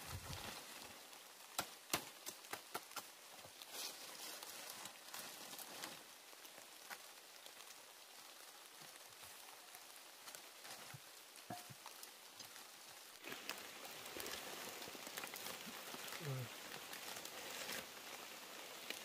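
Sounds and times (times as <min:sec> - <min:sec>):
dry leaves and sticks rustling: 0:00.0 - 0:19.0.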